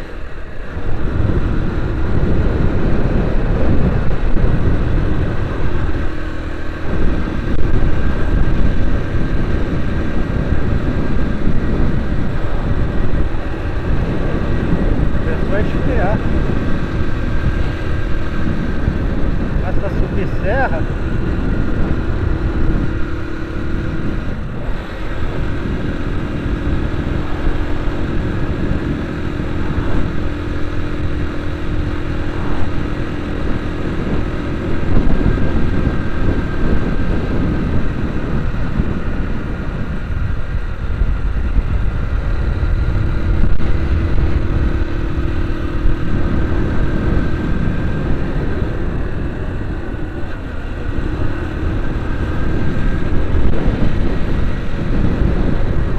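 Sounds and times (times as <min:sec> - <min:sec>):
faint engine hum: 0:00.0 - 0:55.9
road and wind noise: 0:00.0 - 0:55.9.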